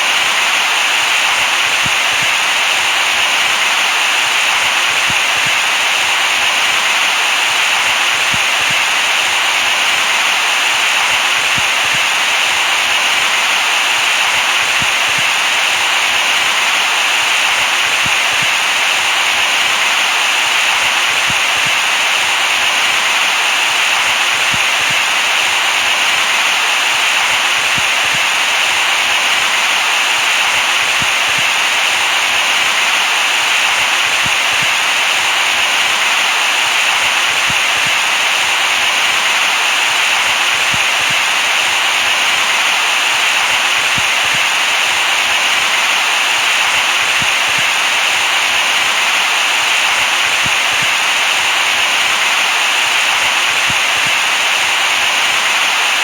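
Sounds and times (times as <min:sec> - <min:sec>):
electronic white noise hiss: 0:00.0 - 0:56.0.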